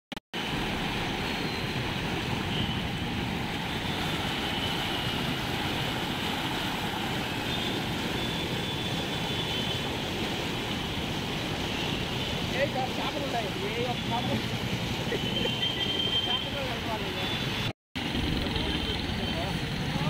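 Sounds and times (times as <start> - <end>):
floodwater rushing: 0.4 - 20.0.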